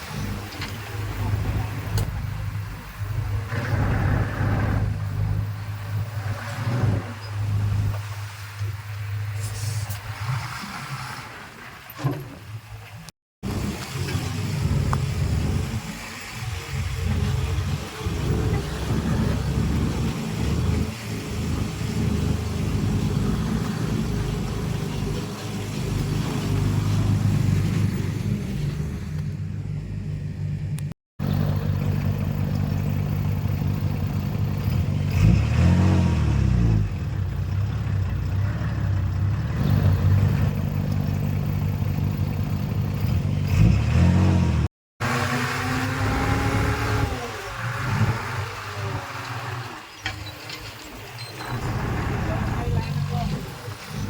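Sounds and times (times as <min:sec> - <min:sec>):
engine revving: 0:00.0 - 0:08.0, 0:13.4 - 0:50.2, 0:51.4 - 0:54.0
heavy machine diesel engines running: 0:00.0 - 0:10.2, 0:13.4 - 0:54.0.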